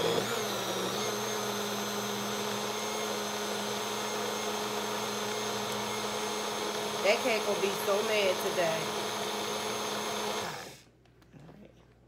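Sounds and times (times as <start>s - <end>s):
blender motor running: 0.0s - 10.8s.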